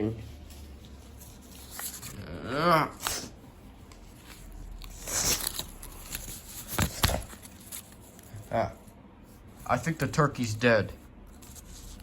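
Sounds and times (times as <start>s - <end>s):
rustle of things handled: 0.0s - 2.3s, 3.0s - 12.0s.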